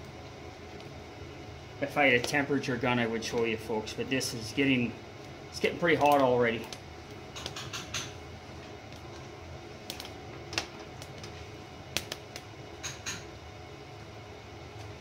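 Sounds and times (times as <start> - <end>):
wood fire crackling in stove: 0.0 - 15.0.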